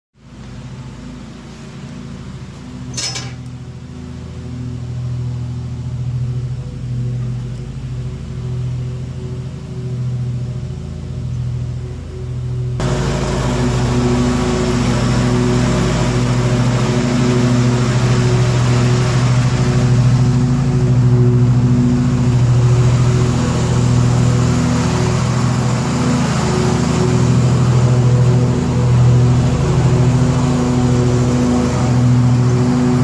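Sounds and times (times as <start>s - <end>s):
backhoe engine running: 0.2s - 33.0s.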